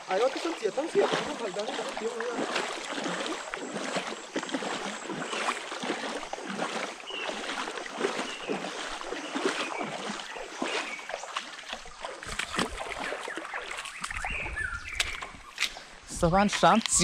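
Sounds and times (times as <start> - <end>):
water splashing: 0.0 - 15.8.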